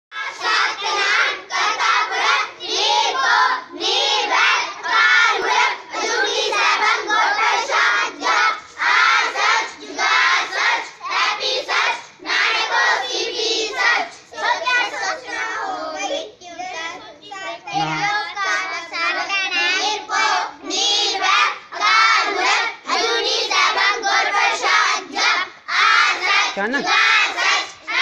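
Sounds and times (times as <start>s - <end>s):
children chanting a prayer: 0.1s - 28.0s.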